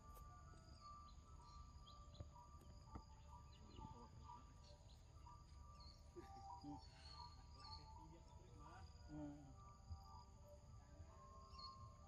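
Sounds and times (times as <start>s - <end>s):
bird chirps: 0.0s - 9.3s, 11.1s - 12.0s
thin insect-like tones: 0.0s - 12.0s.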